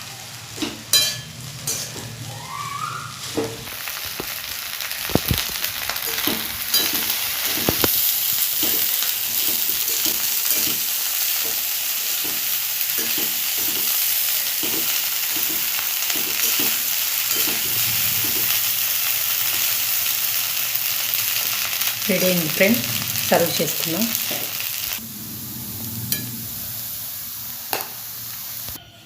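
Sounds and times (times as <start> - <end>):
rice sizzling in a pan: 0.0 - 28.9.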